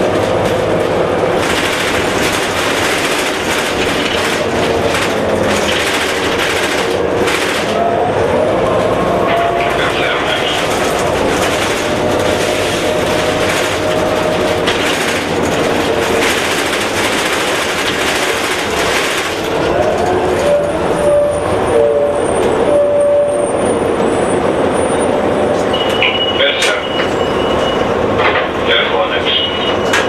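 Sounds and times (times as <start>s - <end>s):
bus engine running: 0.0s - 30.0s
road and cabin noise: 0.0s - 30.0s.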